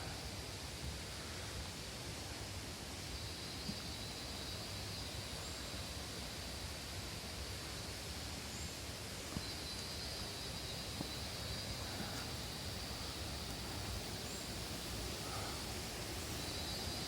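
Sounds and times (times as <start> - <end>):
even hiss: 0.0 - 17.0.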